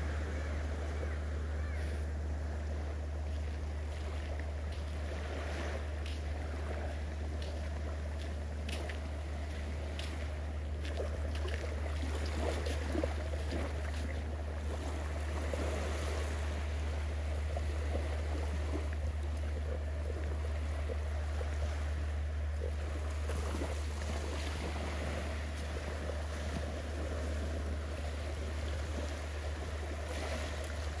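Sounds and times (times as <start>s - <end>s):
gentle surf: 0.0s - 31.0s
steady low rumble: 0.0s - 31.0s.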